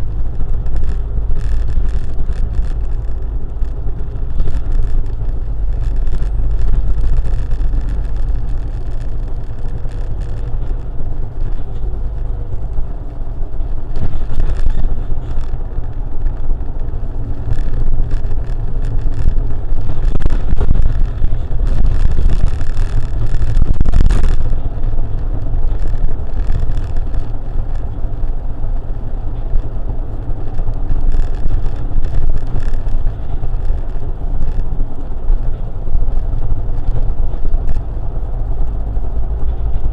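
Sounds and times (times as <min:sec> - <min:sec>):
vehicle driving on road: 0:00.0 - 0:39.9.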